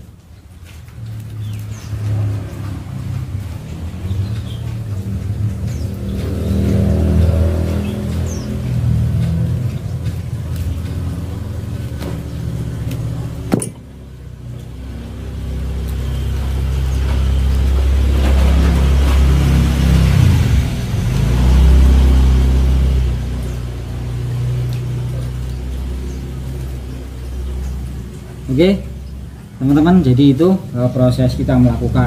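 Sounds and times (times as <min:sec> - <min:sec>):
low engine rumble: 0:00.0 - 0:32.0.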